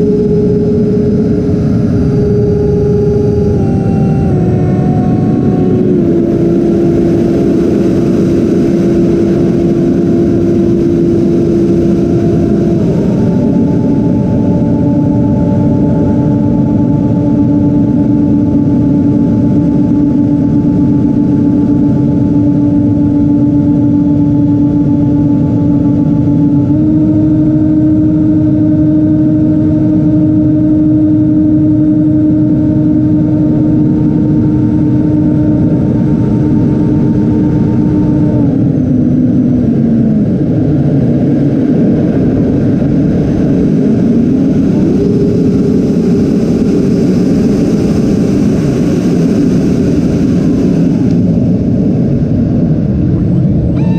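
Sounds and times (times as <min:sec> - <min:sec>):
electric ducted fan whine: 0:00.0 - 0:53.9
wind rush: 0:00.0 - 0:53.9.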